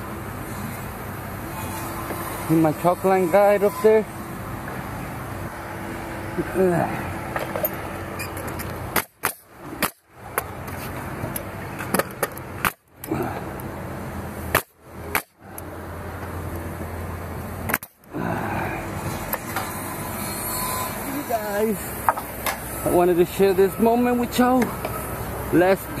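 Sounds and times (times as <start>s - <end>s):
engine hum: 3.9s - 26.0s.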